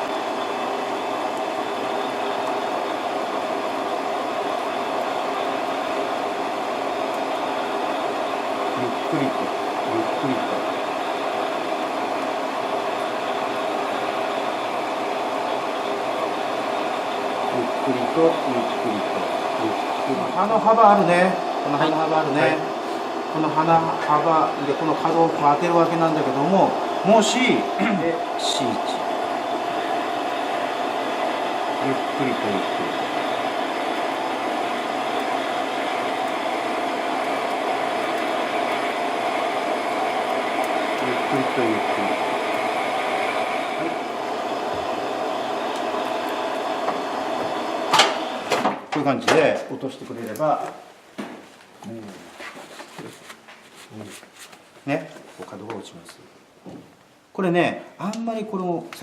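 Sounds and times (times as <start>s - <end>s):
metal lathe running: 0.0s - 48.7s.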